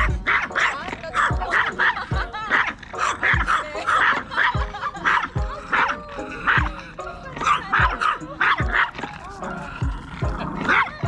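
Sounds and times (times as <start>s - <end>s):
music with steady beat: 0.0s - 2.6s, 3.2s - 10.6s
small dog barking: 0.0s - 10.0s, 10.6s - 11.0s.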